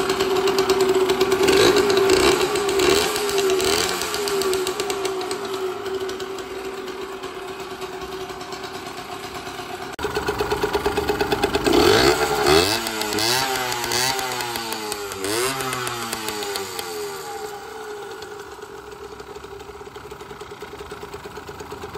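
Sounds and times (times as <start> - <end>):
two-stroke engine idling and revving: 0.0 - 21.9.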